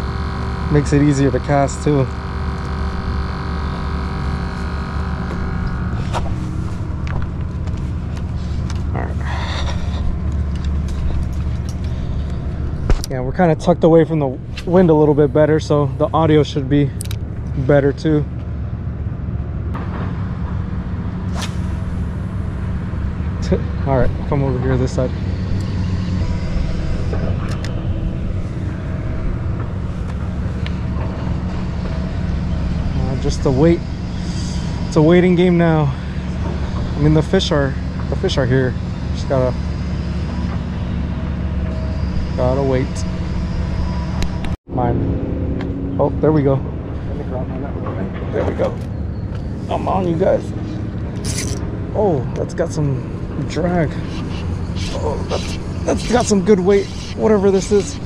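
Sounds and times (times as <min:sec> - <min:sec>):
constant hum: 0:00.0 - 0:58.0
steady low rumble: 0:00.0 - 0:58.0.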